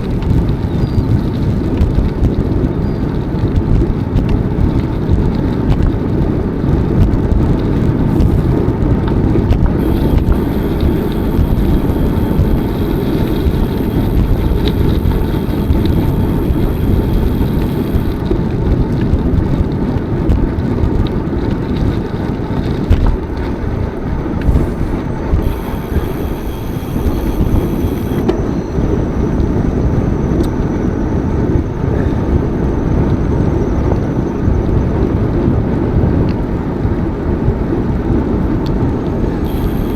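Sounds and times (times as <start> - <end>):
bicycle tyre and road noise: 0.0 - 39.9
wind buffeting microphone: 0.0 - 39.9.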